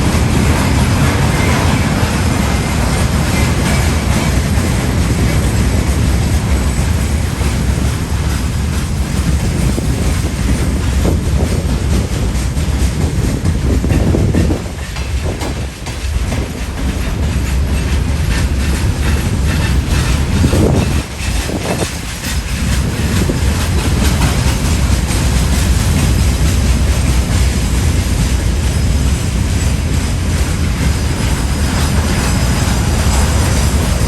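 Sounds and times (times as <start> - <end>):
train rumbling past: 0.0 - 34.0
wheels clattering on rails: 0.0 - 34.0.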